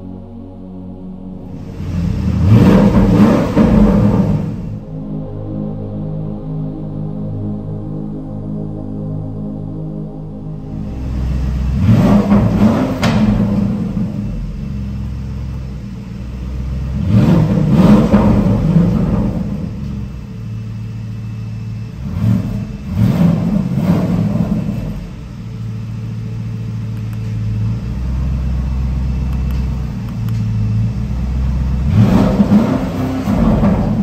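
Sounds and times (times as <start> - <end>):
car engine idling and revving: 1.3 - 6.4, 10.3 - 34.0.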